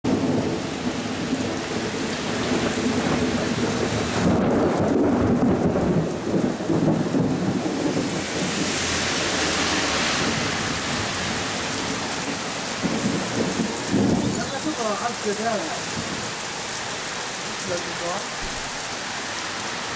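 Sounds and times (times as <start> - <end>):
heavy rain downpour: 0.0 - 19.9
thunder rumbling: 0.1 - 16.8.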